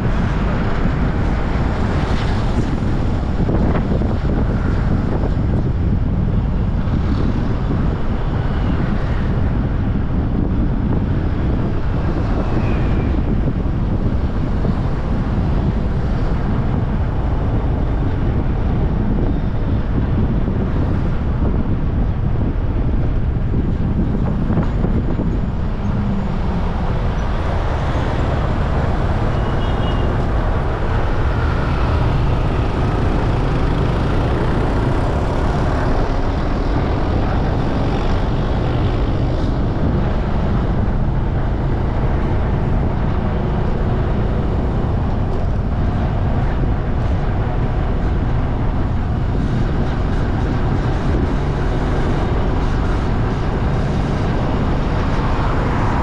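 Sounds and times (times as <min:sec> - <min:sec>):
road and traffic noise: 0:00.0 - 0:56.0
wind rushing on microphone: 0:00.0 - 0:56.0.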